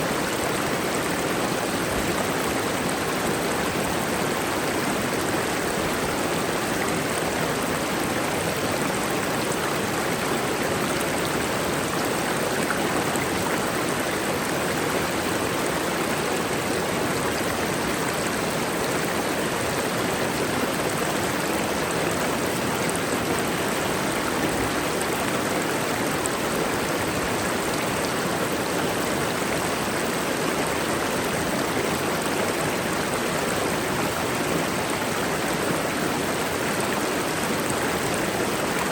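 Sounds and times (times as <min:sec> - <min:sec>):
waterfall roaring over rock: 0:00.0 - 0:38.9.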